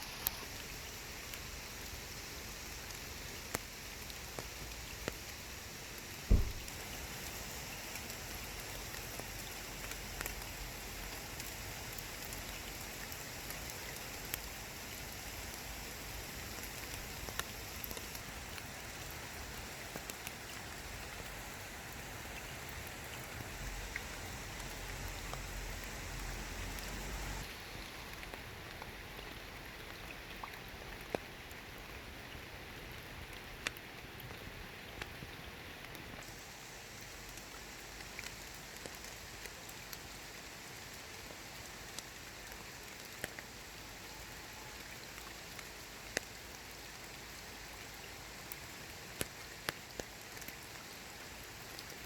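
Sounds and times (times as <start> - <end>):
light rain on water and leaves: 0.0 - 52.0.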